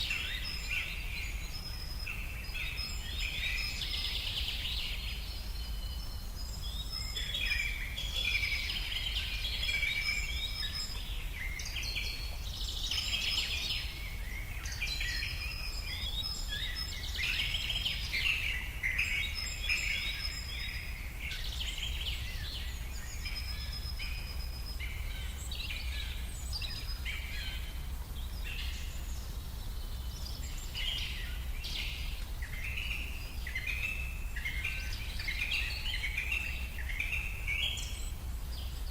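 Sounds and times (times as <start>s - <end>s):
songbirds singing and calling: 0.0s - 38.9s.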